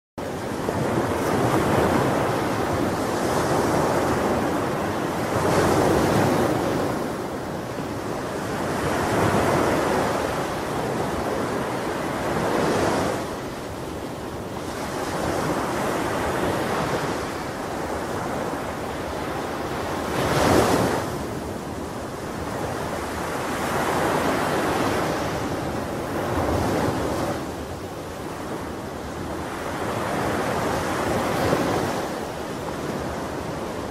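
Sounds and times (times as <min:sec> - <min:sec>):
ocean surf breaking on shore: 0:00.2 - 0:33.9.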